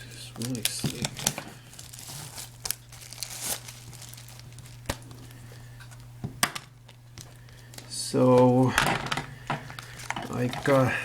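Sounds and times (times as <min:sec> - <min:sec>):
packaging crinkling and rustling: 0:00.0 - 0:11.0
steady low hum: 0:00.0 - 0:11.0.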